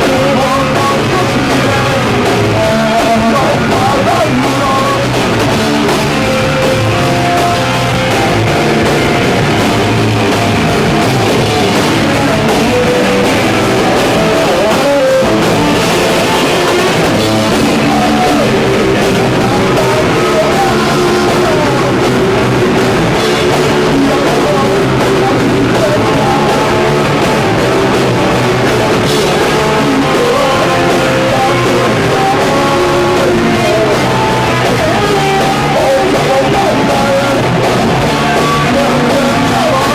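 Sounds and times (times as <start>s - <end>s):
bass guitar: 0.0s - 39.9s
distorted electric guitar: 0.0s - 39.9s
drum kit: 0.0s - 39.9s
person singing: 0.0s - 39.9s.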